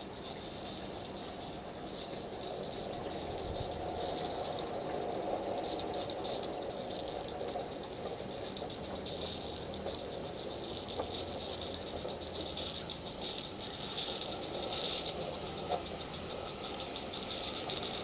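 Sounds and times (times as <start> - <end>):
small steam locomotive chuffing: 0.0 - 18.0.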